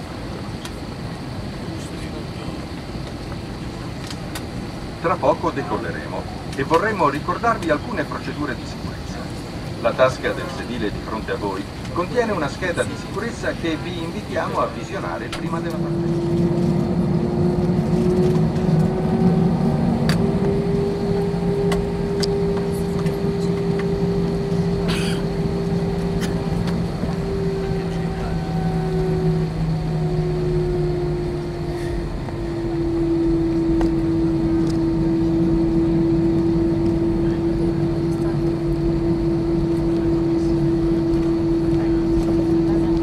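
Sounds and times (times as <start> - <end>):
jet engine drone in cabin: 0.0 - 43.0.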